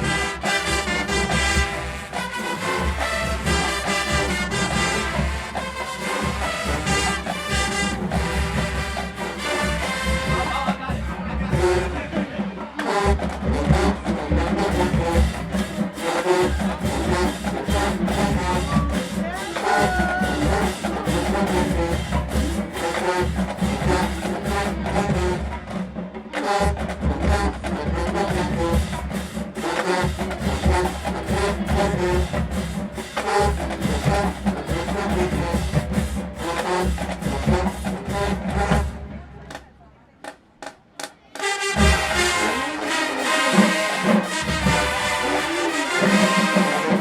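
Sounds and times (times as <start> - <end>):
brass horns: 0.0 - 39.7, 41.3 - 47.0
drumline beat: 0.0 - 47.0.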